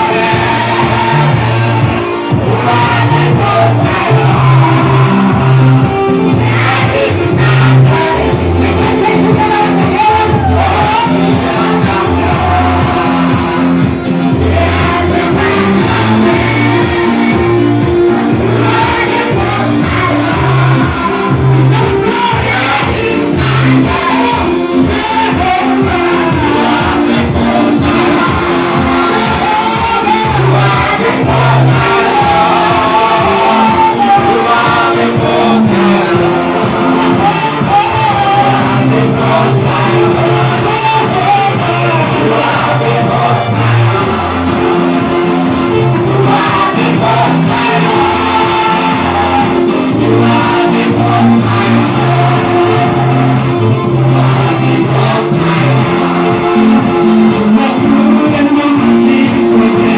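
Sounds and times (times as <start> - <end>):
band playing gospel music: 0.0 - 59.9
people singing: 0.0 - 59.9.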